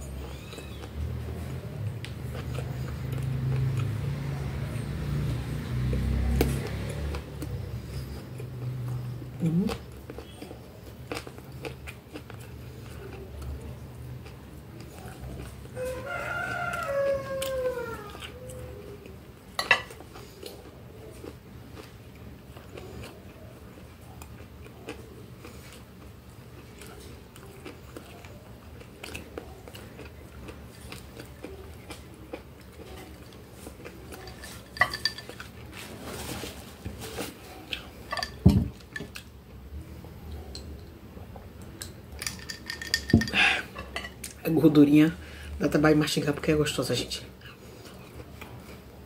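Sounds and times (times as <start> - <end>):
quiet chewing: 0.0 - 44.4, 47.3 - 49.0.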